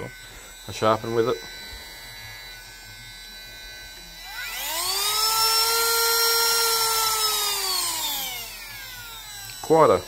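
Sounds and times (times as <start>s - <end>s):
rotary tool whining: 0.0s - 10.0s.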